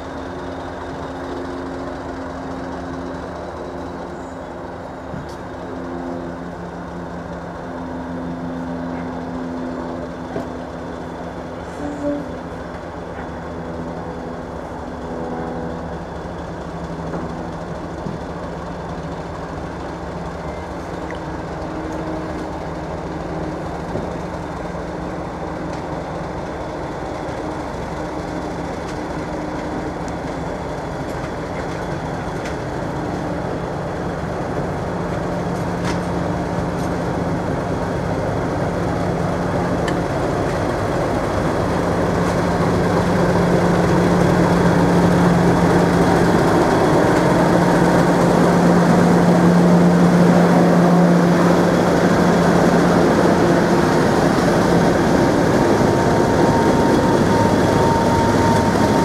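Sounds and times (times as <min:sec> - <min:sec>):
diesel locomotive engine running: 0:00.0 - 0:59.0.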